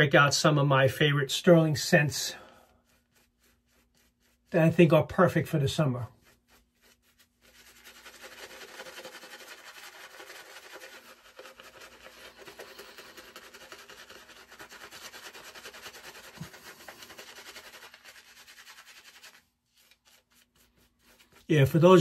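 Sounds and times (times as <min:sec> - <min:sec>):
shaving brush rubbing lather: 0:00.0 - 0:22.0.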